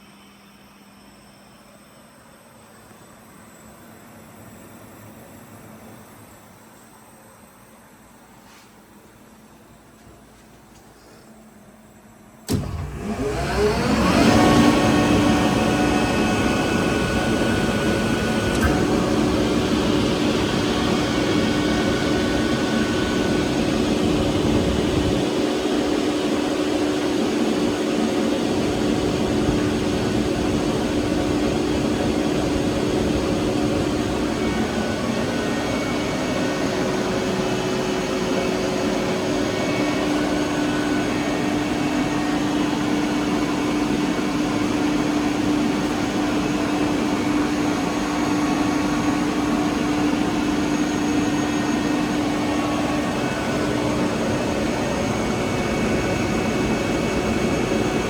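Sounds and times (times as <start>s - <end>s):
air compressor humming: 10.3s - 58.0s.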